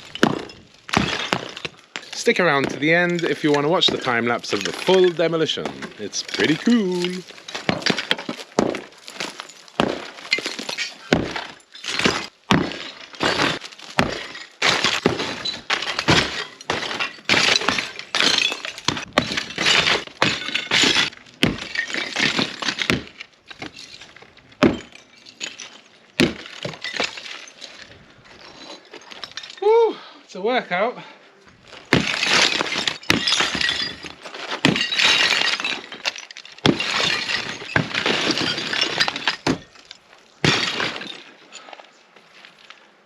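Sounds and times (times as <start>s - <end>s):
rubble clattering: 0.0s - 29.6s, 31.5s - 42.9s.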